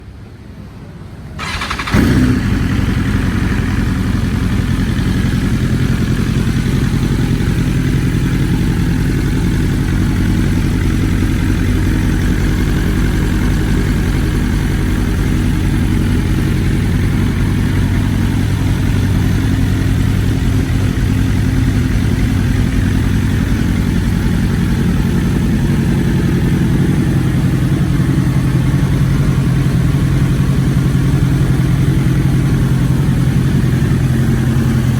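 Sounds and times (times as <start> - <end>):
motorcycle engine starting and idling: 1.4 - 34.9.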